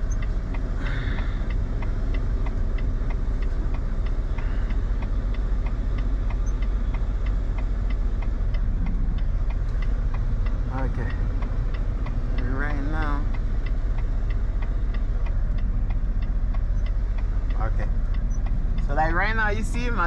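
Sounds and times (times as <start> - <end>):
diesel truck engine running: 0.0 - 20.0
regular ticking: 0.0 - 20.0.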